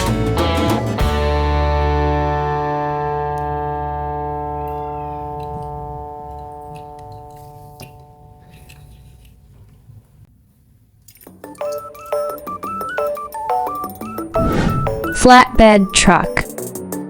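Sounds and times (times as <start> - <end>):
guitar background music: 0.0 - 8.8, 11.2 - 17.0.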